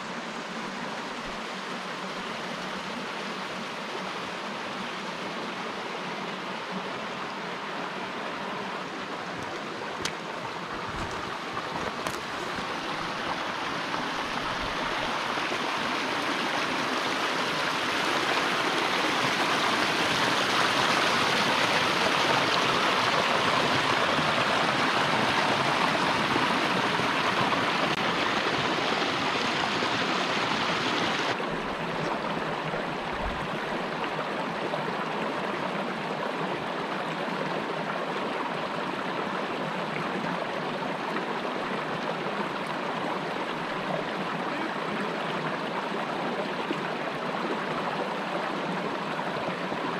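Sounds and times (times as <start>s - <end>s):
creek splashing over stones: 0.0s - 49.9s.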